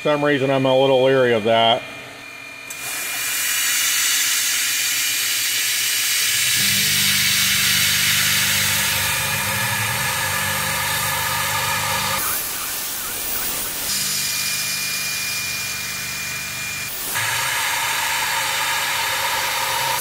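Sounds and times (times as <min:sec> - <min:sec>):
coolant sprayer hissing: 0:02.7 - 0:16.2, 0:16.8 - 0:20.0
milling machine cutting metal: 0:02.7 - 0:20.0.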